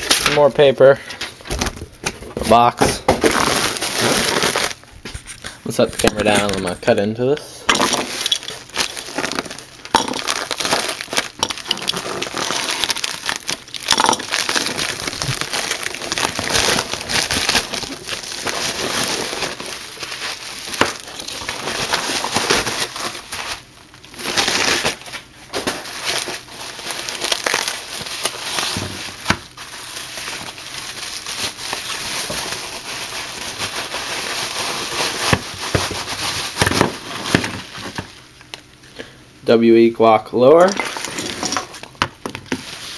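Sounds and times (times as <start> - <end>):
packing paper crinkling: 1.2 - 7.0, 7.8 - 38.3, 40.6 - 42.9.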